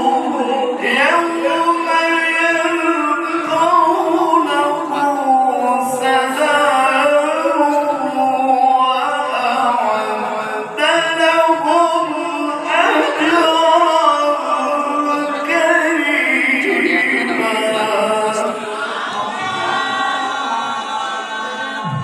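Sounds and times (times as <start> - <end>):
man chanting into a microphone: 0.0 - 19.2.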